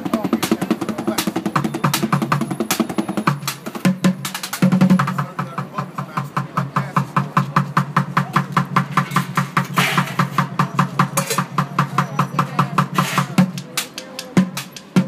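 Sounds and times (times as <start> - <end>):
drumming on plastic buckets: 0.0 - 15.0.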